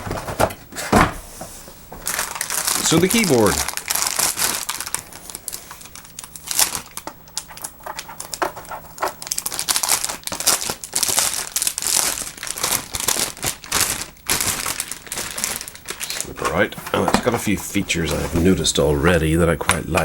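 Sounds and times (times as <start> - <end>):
plastic packaging crinkling: 2.0 - 18.5.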